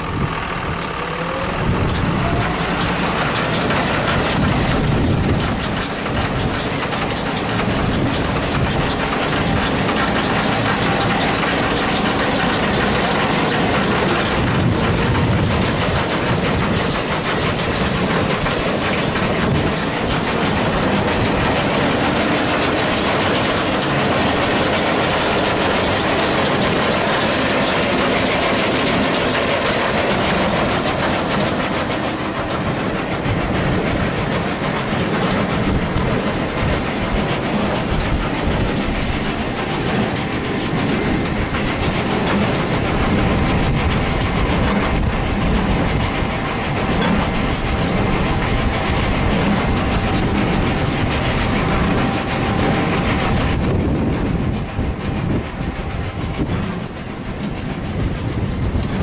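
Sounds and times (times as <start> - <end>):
baler mechanical clatter: 0.0 - 59.0
tractor engine rumble: 0.0 - 59.0.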